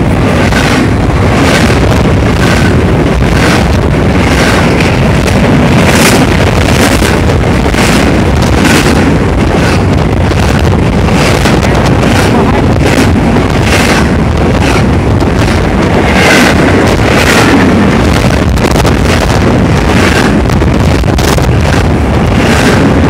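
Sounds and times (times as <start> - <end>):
train clattering: 0.0 - 23.0
train wheels rumbling on rails: 0.0 - 23.0.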